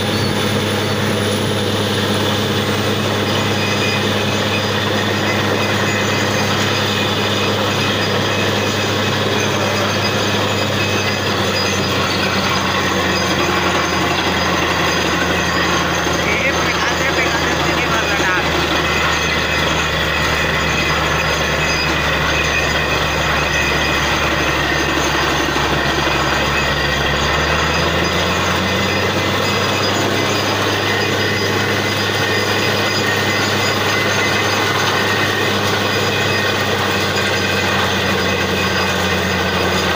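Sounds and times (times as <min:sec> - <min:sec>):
dense mechanical noise: 0:00.0 - 0:39.9
drilling rig engine humming: 0:00.0 - 0:39.9.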